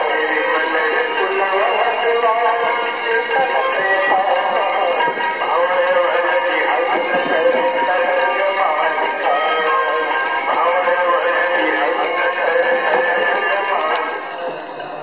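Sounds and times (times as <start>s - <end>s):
bells ringing: 0.0s - 15.0s
person singing devotional melody: 0.0s - 15.0s.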